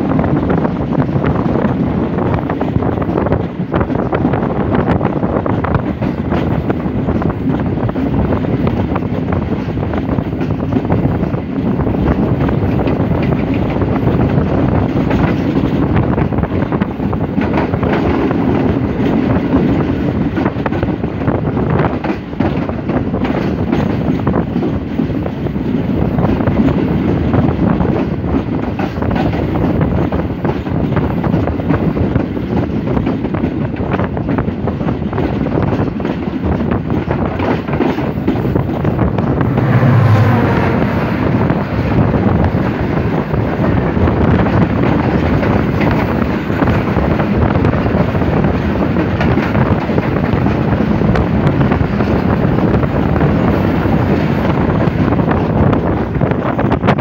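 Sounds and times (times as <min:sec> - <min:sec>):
train wheels rumbling on track: 0:00.0 - 0:57.0
wind rushing over microphone: 0:00.0 - 0:57.0.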